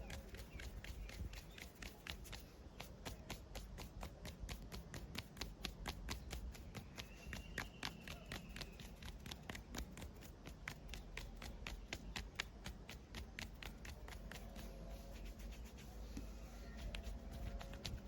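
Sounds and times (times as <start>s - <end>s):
body cracking clicks: 0.0s - 14.6s.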